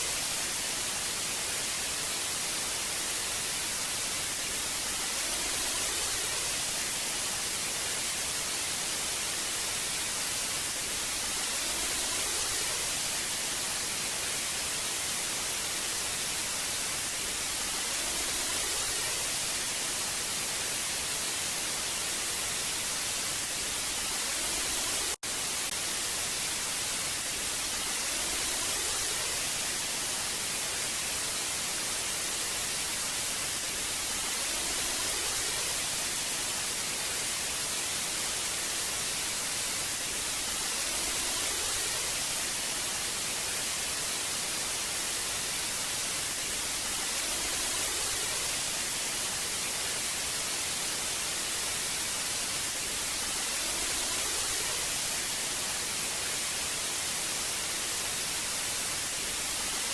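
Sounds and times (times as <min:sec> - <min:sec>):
tv static hiss: 0:00.0 - 0:59.9.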